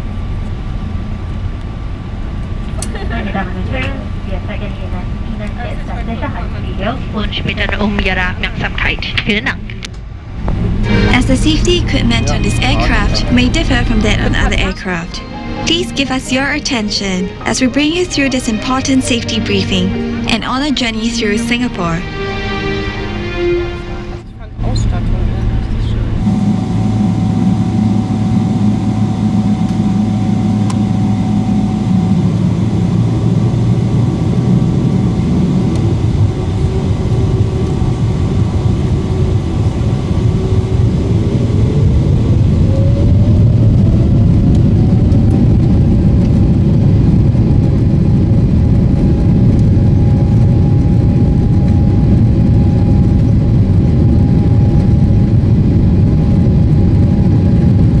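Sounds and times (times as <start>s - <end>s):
aircraft rumble: 0.0s - 58.0s
jet engines whining: 0.0s - 58.0s.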